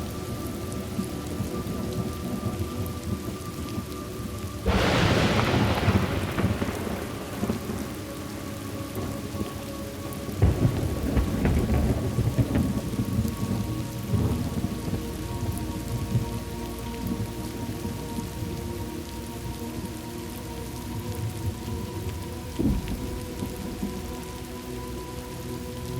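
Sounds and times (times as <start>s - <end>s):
thunder rumbling: 0.0s - 19.9s, 21.0s - 24.6s
steady rain: 0.0s - 25.9s.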